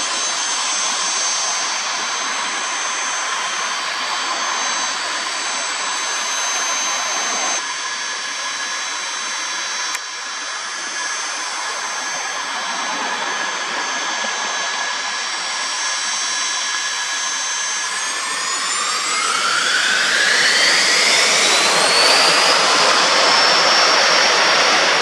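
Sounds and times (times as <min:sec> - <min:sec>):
jet engines whooshing and whining: 0:00.0 - 0:25.0.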